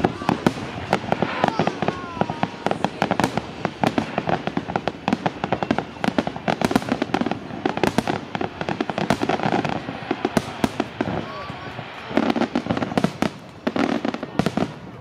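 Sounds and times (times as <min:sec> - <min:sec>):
fireworks bursts and bangs: 0:00.0 - 0:15.0.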